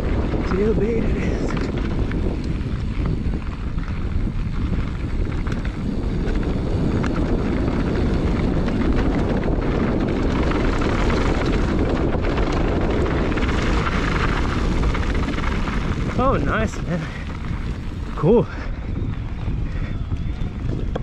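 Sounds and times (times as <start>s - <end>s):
bike tyres rumbling on trail: 0.0s - 21.0s
wind over microphone: 0.0s - 21.0s.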